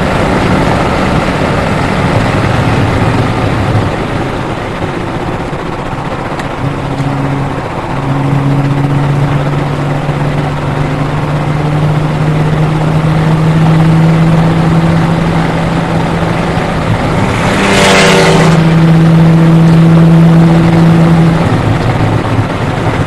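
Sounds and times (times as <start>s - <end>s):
car engine pulling steadily: 0.0s - 23.0s.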